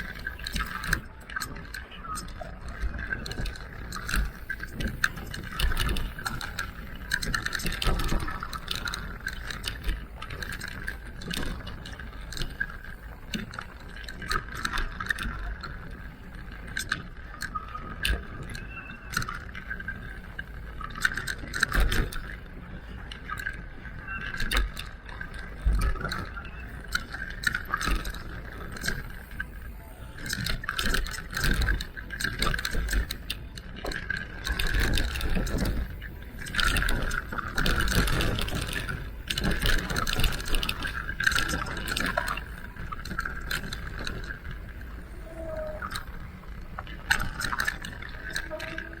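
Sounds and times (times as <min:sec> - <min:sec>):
bike knocking and rattling: 0:00.0 - 0:49.0.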